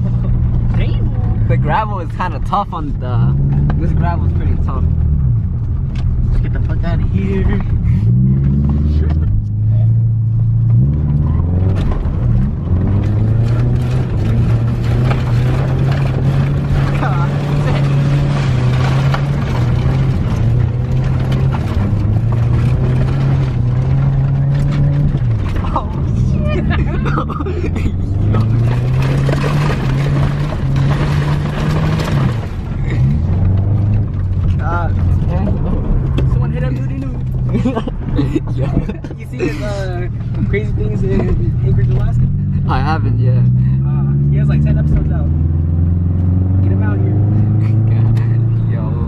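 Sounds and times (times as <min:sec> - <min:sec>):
car exhaust accelerating: 0:00.0 - 0:49.0.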